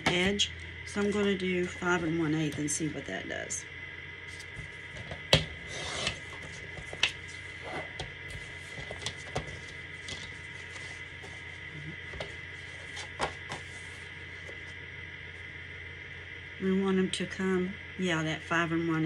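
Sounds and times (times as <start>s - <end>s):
faint high hum: 0.0s - 19.0s.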